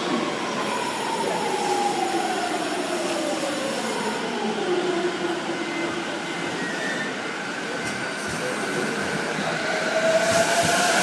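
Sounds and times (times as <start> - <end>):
electric train whine: 0.0 - 11.0.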